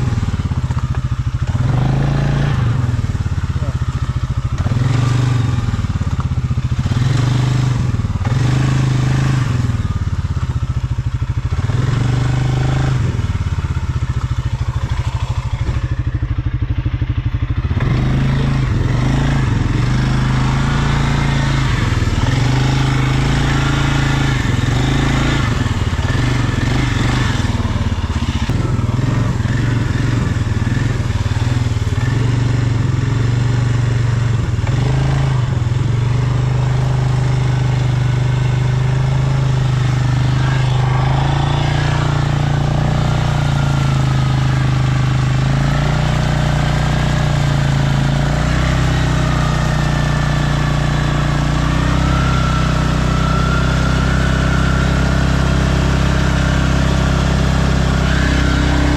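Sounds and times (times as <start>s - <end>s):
atv engine running: 0.0s - 58.9s.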